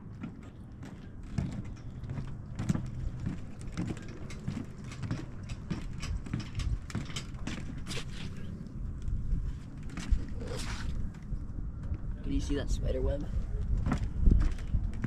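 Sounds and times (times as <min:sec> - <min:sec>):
footsteps on floating dock: 0:00.0 - 0:12.2, 0:13.3 - 0:15.0.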